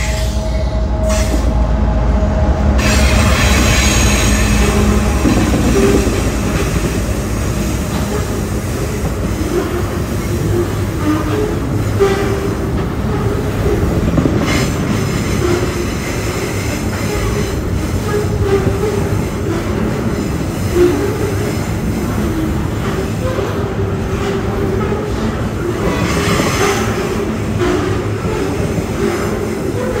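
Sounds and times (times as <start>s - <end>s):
train squeaks: 0.0s - 1.6s, 2.8s - 30.0s
train wheels rumbling on rail: 0.0s - 30.0s.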